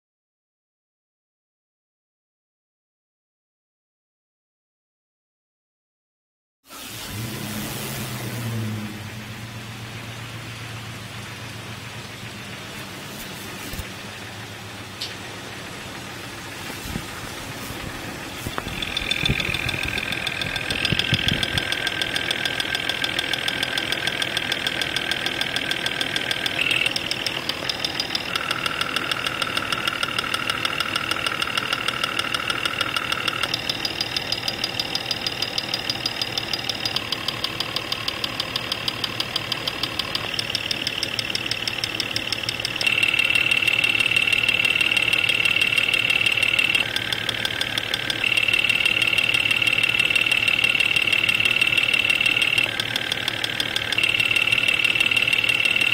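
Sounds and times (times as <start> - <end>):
engine ticking knock: 10.5 - 55.9.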